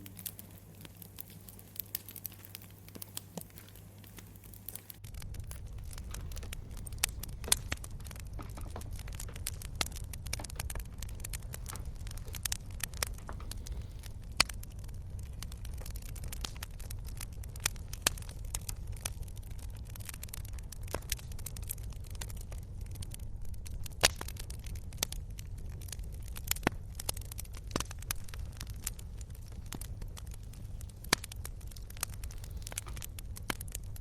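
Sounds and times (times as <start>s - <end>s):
campfire crackling and popping: 0.0s - 34.0s
fire low rumble: 0.0s - 34.0s.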